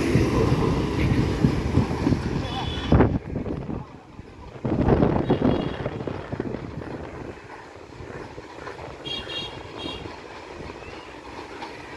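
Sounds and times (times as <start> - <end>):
train rumbling: 0.0 - 11.9.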